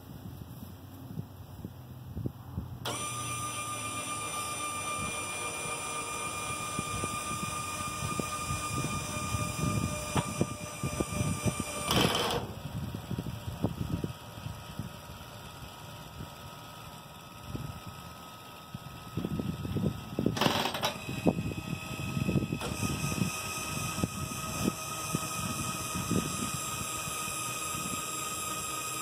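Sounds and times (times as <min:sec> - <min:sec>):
electric actuator motor whine: 0:02.8 - 0:29.0.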